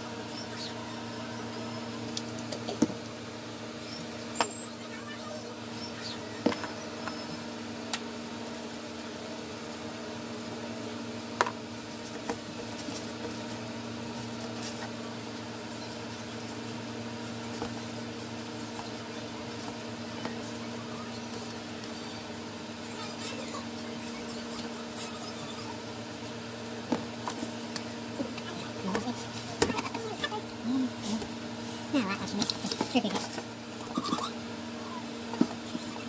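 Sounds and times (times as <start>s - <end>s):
steady machine hum: 0.0s - 36.0s.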